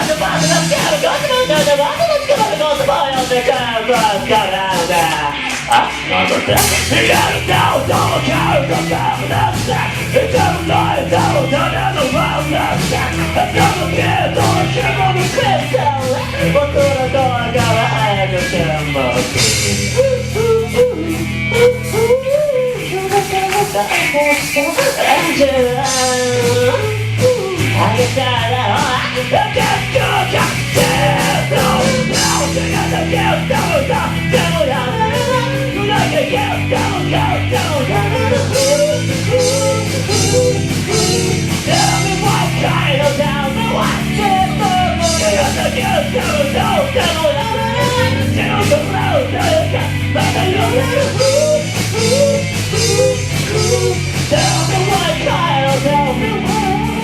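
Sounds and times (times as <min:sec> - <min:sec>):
lead vocal singing: 0:00.0 - 0:57.0
rock band playing: 0:00.0 - 0:57.0.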